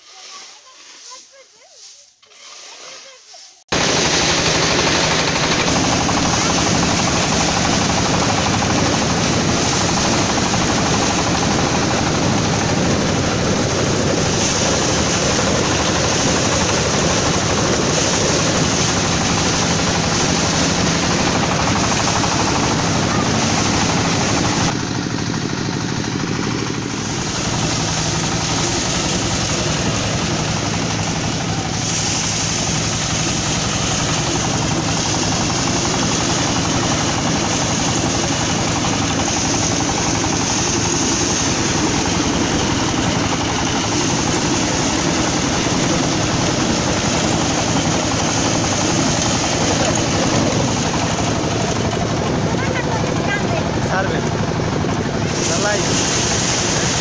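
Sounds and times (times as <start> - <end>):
threshing machine clattering: 3.7 - 57.0.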